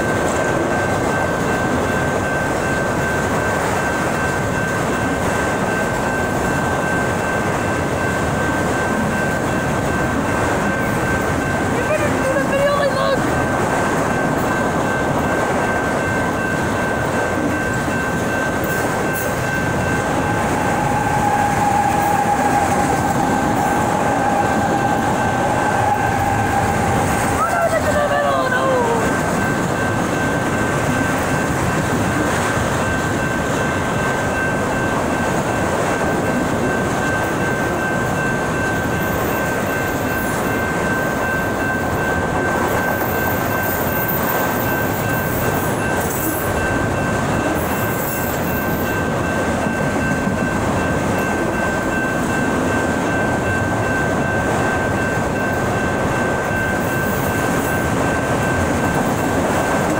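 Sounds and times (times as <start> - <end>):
steady high tone: 0.0 - 59.9
train wheels rumbling on rails: 0.0 - 59.9.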